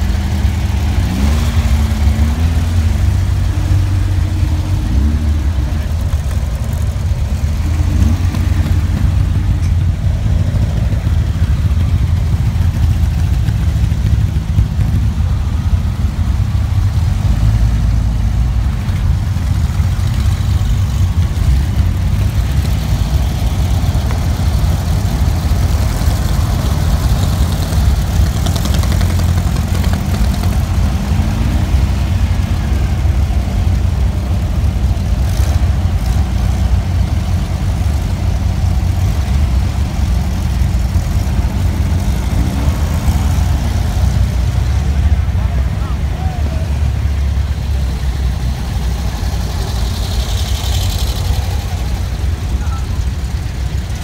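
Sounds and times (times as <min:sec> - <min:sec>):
car engines idling and crawling: 0:00.0 - 0:54.0
engine revving: 0:00.0 - 0:54.0.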